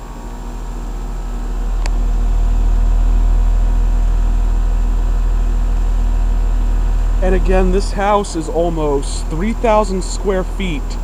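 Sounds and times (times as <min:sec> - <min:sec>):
heat pump humming: 0:00.0 - 0:11.0.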